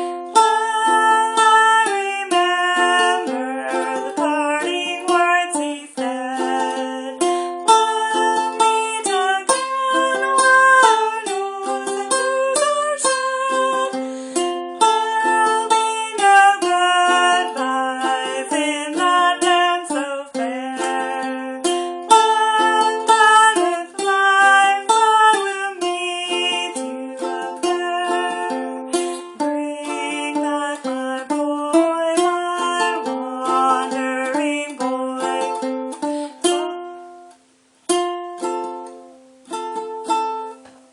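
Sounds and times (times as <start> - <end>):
ukulele plucked melody: 0.0 - 40.9.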